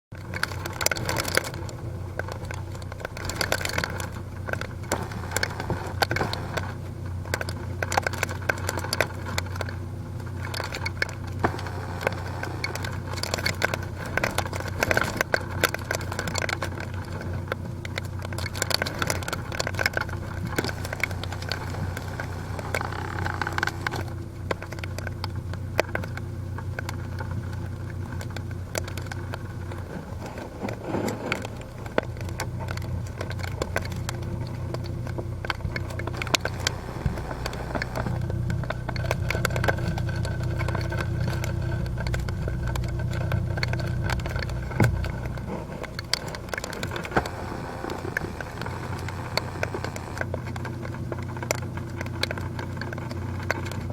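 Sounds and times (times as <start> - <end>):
clicks and crackles: 0.1 - 53.9
steady low hum: 0.1 - 53.9
wind: 0.1 - 53.9.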